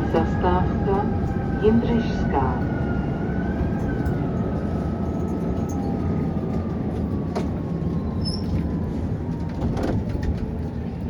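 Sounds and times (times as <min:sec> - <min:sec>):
tram wheels rumbling: 0:00.0 - 0:11.0.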